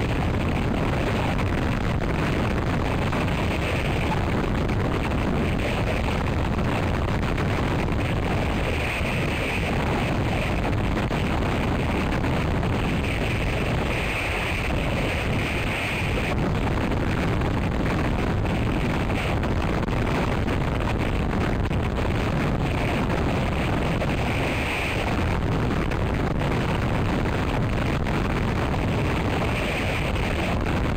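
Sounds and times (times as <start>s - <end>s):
strong gusty wind on microphone: 0.0s - 30.9s.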